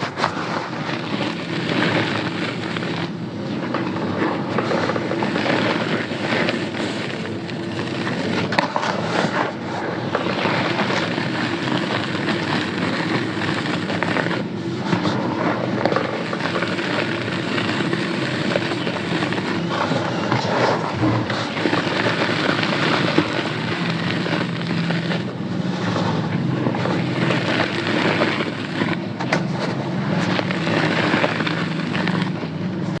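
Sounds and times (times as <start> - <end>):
cement chunks crunching: 0.0 - 33.0.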